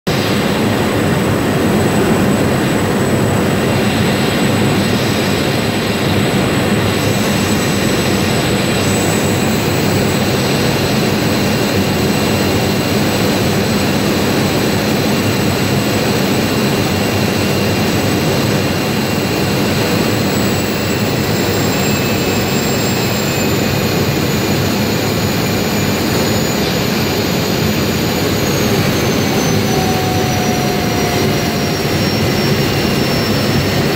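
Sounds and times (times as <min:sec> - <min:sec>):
plane engine and propeller droning: 0:00.0 - 0:33.9.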